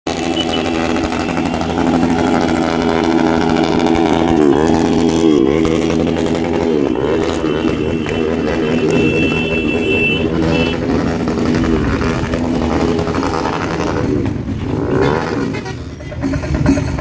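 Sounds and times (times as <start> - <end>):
motorcycles riding past: 0.1 - 17.0.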